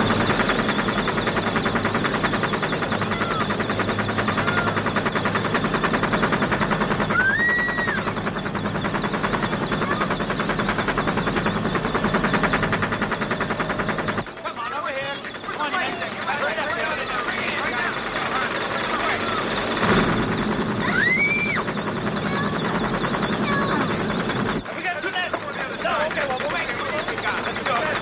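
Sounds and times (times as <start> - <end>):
helicopter rotor chopping: 0.0 - 28.0.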